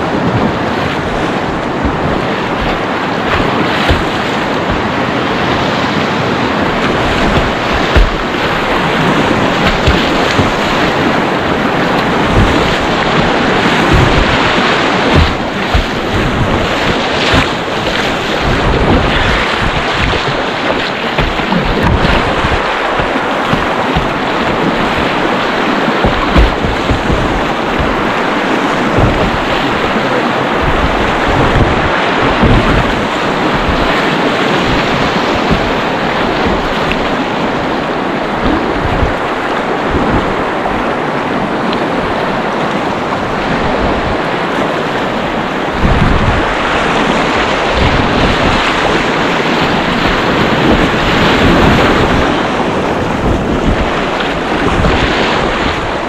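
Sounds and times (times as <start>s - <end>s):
river water rushing and splashing: 0.0s - 56.0s
wind buffeting microphone: 0.0s - 56.0s.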